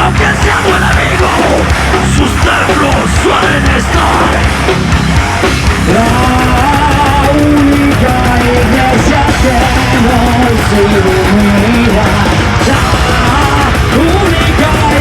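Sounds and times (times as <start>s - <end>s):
heavy metal band playing: 0.0s - 15.0s
melodic lead guitar line: 0.0s - 15.0s.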